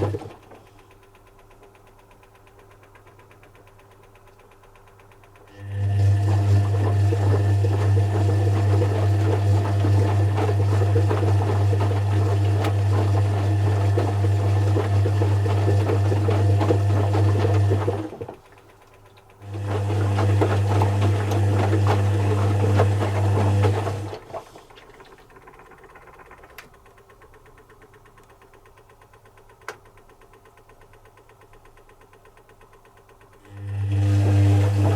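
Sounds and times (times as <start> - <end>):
washing machine clatter: 0.0 - 34.9
washing machine motor hum: 0.0 - 34.9.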